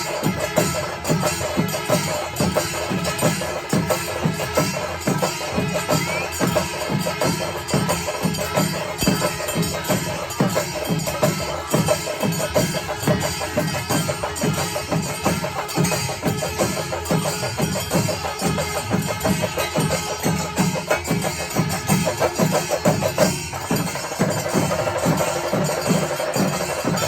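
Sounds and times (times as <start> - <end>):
cymbals: 0.0 - 27.0
stick-beaten drums: 0.0 - 27.0.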